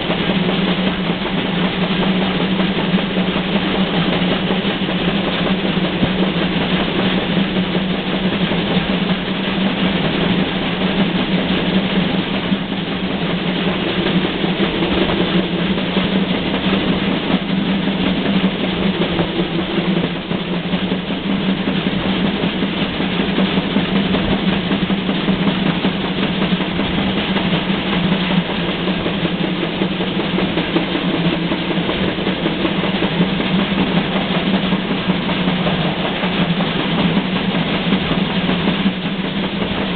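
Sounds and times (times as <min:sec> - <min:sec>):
steady low drone: 0:00.0 - 0:39.9
steam train rumbling: 0:00.0 - 0:39.9.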